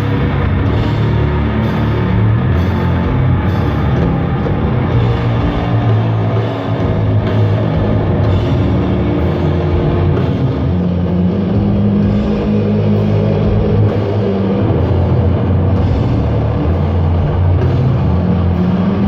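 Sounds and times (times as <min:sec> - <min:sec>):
distorted guitars and bass: 0:00.0 - 0:19.0
drums: 0:00.0 - 0:19.0.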